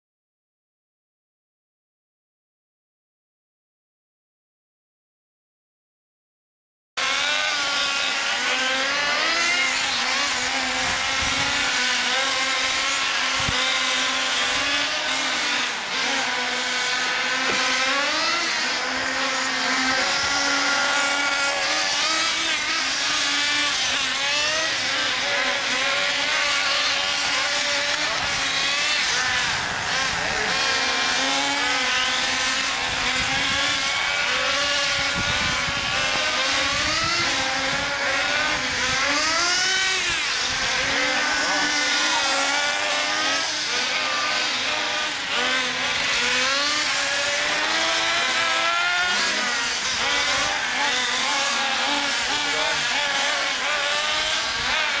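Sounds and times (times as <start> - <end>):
toy truck engines buzzing: 7.0 - 55.0.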